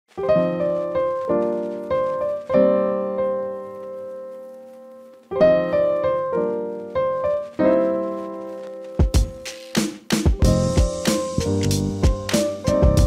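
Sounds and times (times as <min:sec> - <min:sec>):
piano chords: 0:00.1 - 0:13.0.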